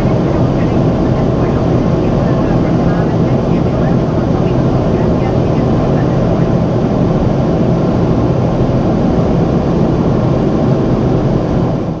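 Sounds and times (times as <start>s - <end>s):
jet engines roaring in cabin: 0.0s - 12.0s
low hum: 0.0s - 12.0s.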